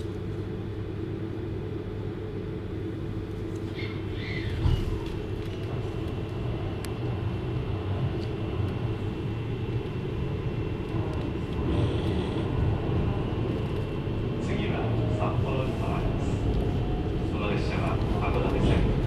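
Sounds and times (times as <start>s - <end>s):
train wheels rumbling on rail: 3.6s - 19.0s.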